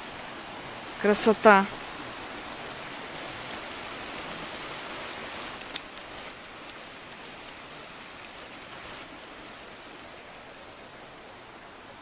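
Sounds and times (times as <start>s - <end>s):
stream running over stones: 0.0s - 12.0s.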